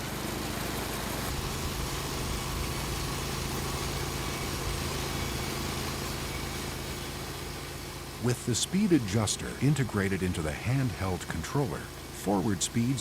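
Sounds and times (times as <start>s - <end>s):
sawmill engine humming: 0.0s - 13.0s.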